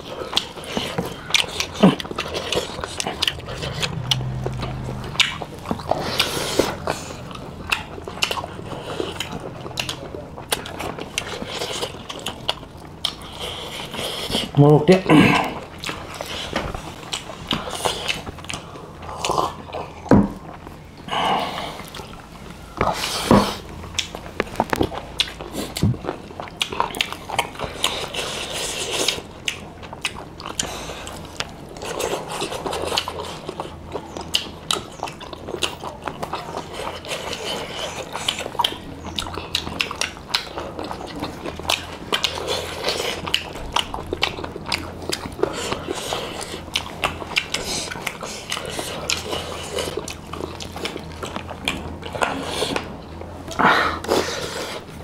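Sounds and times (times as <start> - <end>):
people chewing and smacking: 0.0 - 55.0.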